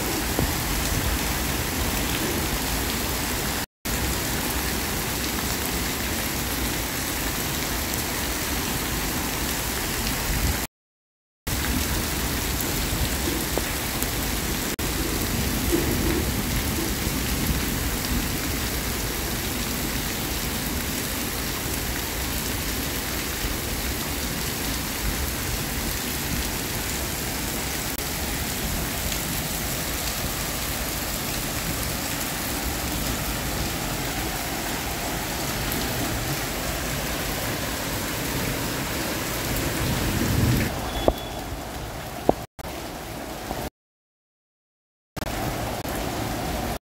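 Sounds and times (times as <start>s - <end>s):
heavy rain pouring: 0.0s - 10.7s, 11.5s - 43.7s, 45.2s - 46.8s.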